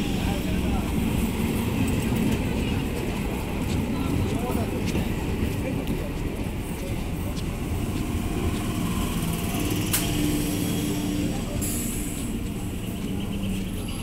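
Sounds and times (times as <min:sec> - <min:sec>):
train rumbling and humming: 0:00.0 - 0:14.0.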